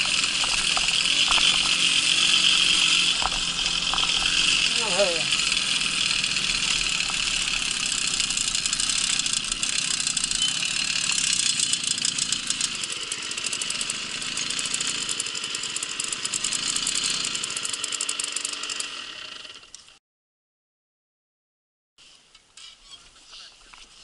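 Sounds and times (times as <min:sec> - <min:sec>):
fast rattling clicks: 0:00.0 - 0:19.9
moped engine running: 0:00.0 - 0:20.0.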